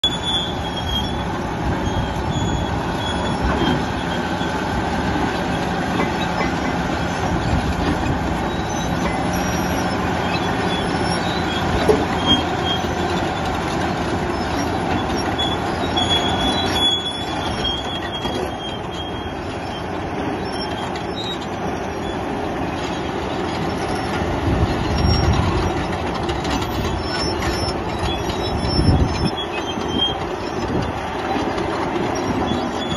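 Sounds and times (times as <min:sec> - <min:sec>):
bulldozer diesel engine: 0:00.0 - 0:32.9
steel tracks clanking and squealing: 0:00.0 - 0:32.9.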